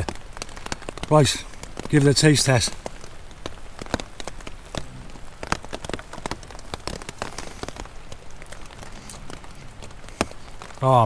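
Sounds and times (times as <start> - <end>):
rain hissing on a tent: 0.0 - 11.0
raindrops hitting fabric: 0.0 - 11.0.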